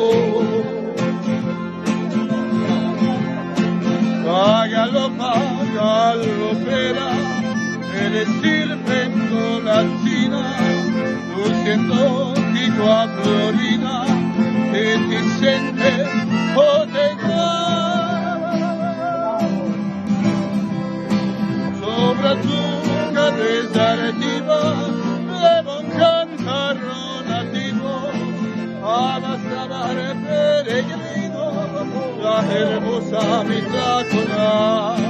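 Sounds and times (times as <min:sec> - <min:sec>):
man singing: 0:00.0 - 0:01.4, 0:02.1 - 0:19.8, 0:21.4 - 0:35.0
acoustic guitar strumming: 0:00.0 - 0:35.0.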